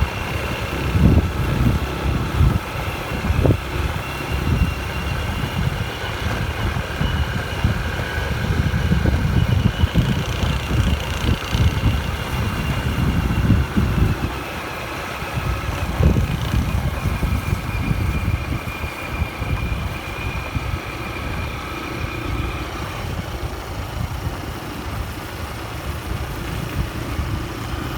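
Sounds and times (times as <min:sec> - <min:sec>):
motorbike engine running: 0:00.0 - 0:27.9
wind buffeting microphone: 0:00.0 - 0:27.9.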